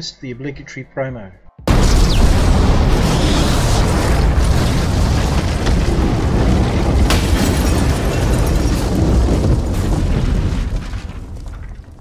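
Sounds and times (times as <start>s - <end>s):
rumbling explosion boom: 1.7s - 12.0s
sharp crack: 1.7s - 12.0s.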